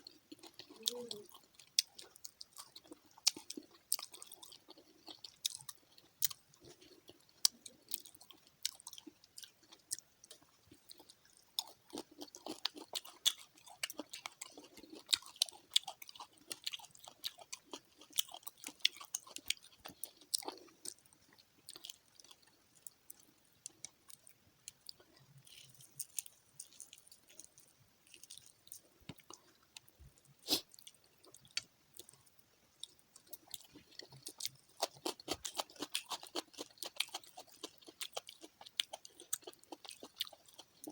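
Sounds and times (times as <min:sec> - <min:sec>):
person chewing fried fish: 0:00.0 - 0:40.9.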